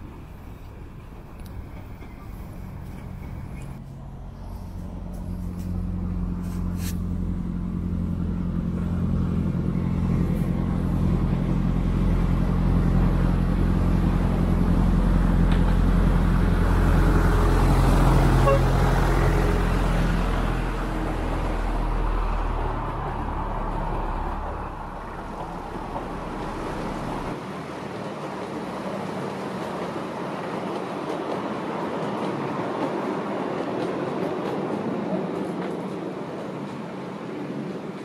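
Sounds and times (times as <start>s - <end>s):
locomotive engine humming: 0.0s - 38.0s
wheels rumbling on rails: 0.0s - 38.0s.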